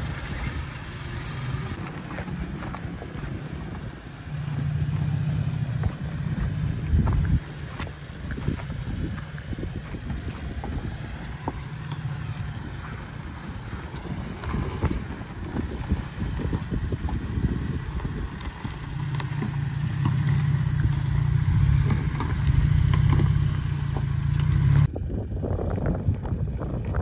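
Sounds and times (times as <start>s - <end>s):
truck engine pulling under load: 0.0s - 27.0s
wind buffeting microphone: 0.0s - 27.0s.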